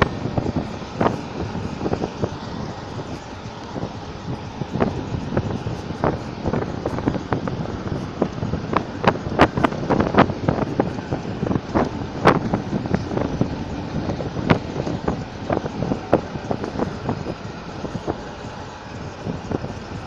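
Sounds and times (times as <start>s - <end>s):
mechanical rumble: 0.0s - 20.0s.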